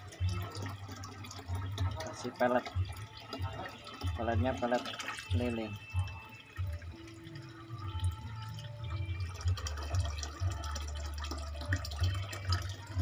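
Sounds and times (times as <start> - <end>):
water pouring into glass tank: 0.0 - 13.0.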